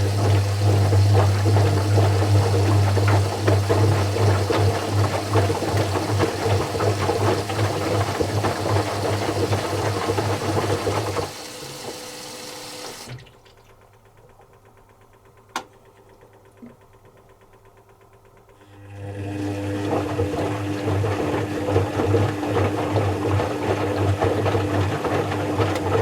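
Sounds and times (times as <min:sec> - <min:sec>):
washing machine water sloshing: 0:00.0 - 0:14.4, 0:18.8 - 0:26.0.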